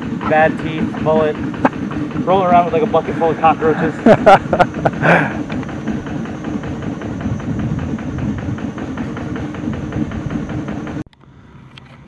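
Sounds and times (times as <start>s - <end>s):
boat engine clattering: 0.0s - 12.0s.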